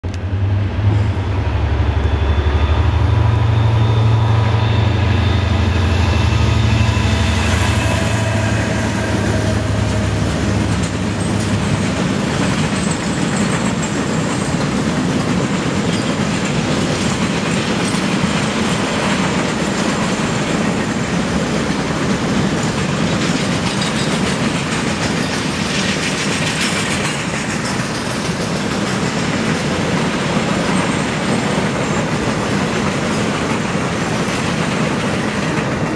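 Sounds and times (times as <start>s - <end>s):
diesel locomotive engine drone: 0.0s - 35.9s
freight wagons rolling on rails: 3.2s - 35.9s.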